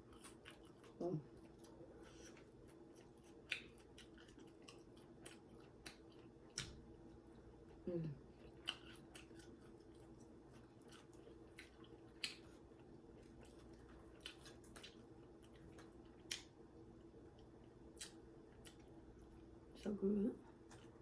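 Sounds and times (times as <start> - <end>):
person chewing food: 0.0 - 19.6
faint steady hum: 0.0 - 21.0.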